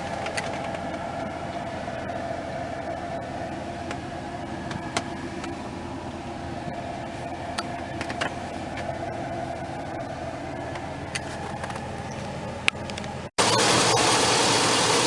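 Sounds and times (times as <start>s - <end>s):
pickup truck engine hum: 0.0s - 15.0s.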